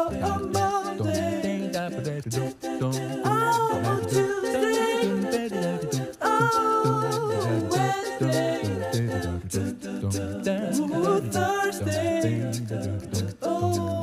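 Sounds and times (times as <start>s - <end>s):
a cappella singing: 0.0s - 14.0s.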